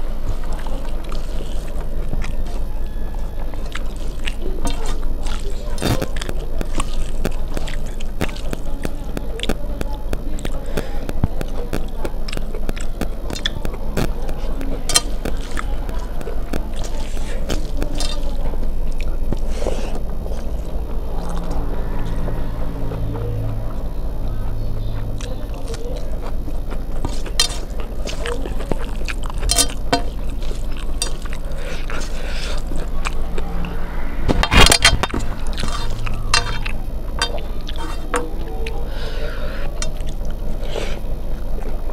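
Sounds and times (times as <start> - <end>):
fingers squishing food on steel plate: 0.0 - 23.8, 24.4 - 40.7
eating mouth sounds: 0.0 - 41.8
chewing: 0.0 - 41.9.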